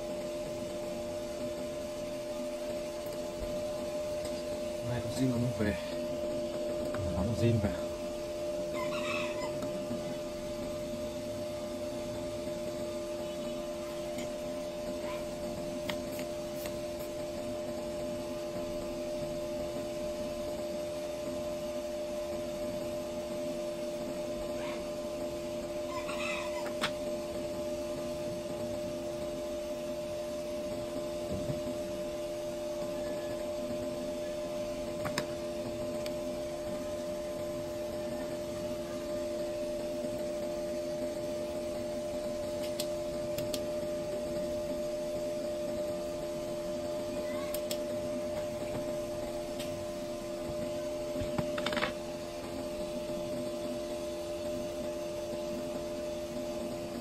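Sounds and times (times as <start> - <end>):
machine hum with held tones: 0.0 - 57.0.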